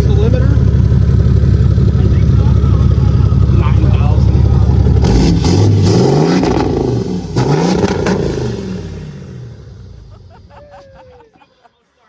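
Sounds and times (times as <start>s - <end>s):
truck engine revving: 0.0s - 10.5s.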